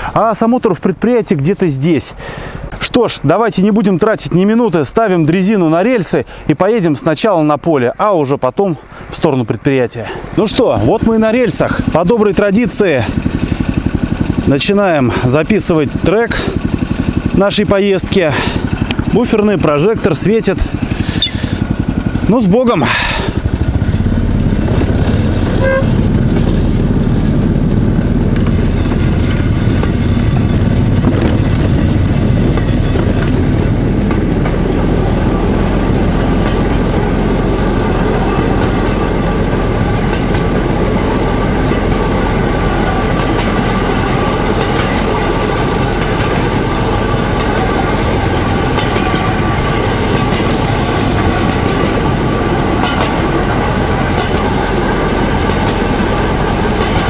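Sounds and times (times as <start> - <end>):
wheels clattering on rails: 9.9 - 57.0
small engine droning: 10.7 - 57.0.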